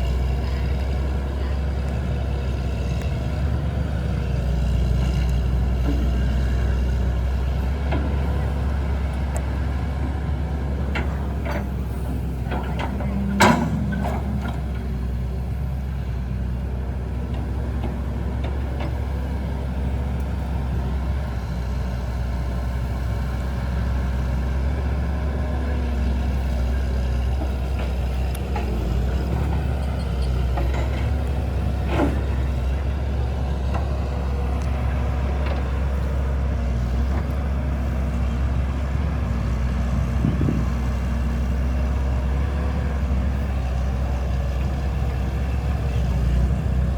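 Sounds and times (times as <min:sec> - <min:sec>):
engine rumble: 0:00.0 - 0:46.9.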